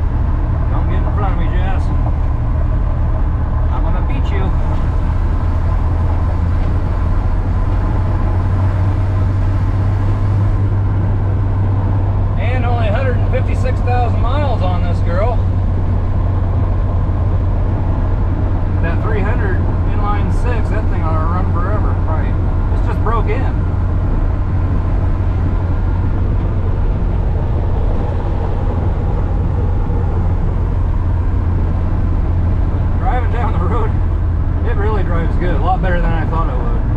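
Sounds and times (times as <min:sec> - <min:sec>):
truck engine drone: 0:00.0 - 0:36.9
tyres on gravel road: 0:00.0 - 0:36.9.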